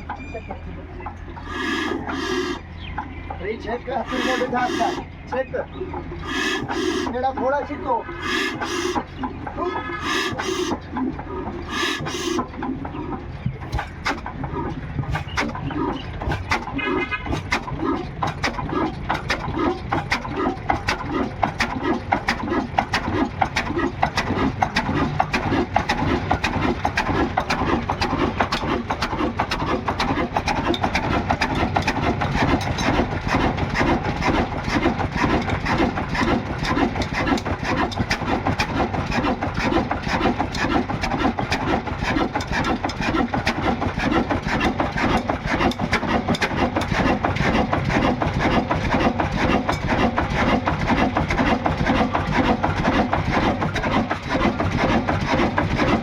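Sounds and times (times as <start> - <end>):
diesel engine knocking: 0.0 - 56.0.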